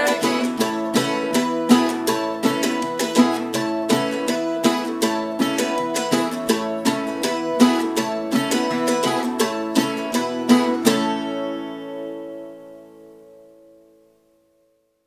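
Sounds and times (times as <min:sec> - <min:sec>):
banjo: 0:00.0 - 0:12.5
mandolin: 0:00.0 - 0:14.7
acoustic guitar: 0:00.0 - 0:15.0.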